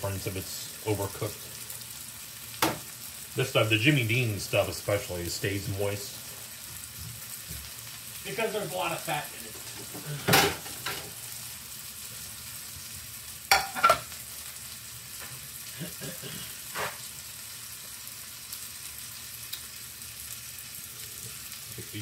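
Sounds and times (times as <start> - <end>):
sausages sizzling in a frying pan: 0.0 - 22.0.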